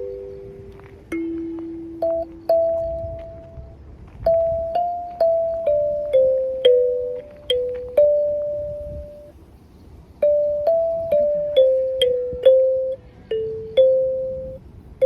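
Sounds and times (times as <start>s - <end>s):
kalimba playing slow melody: 0.0s - 9.4s, 10.2s - 14.6s.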